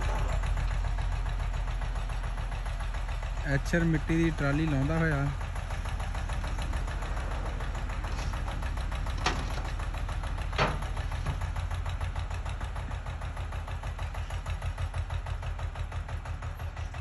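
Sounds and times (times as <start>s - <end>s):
tractor diesel engine straining: 0.0s - 17.0s.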